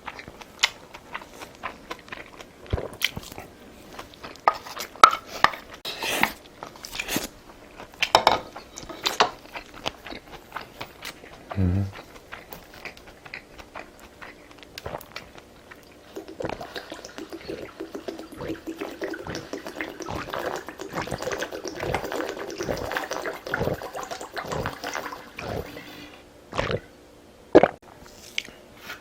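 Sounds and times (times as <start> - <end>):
wet chewing and smacking: 0.0 - 25.7.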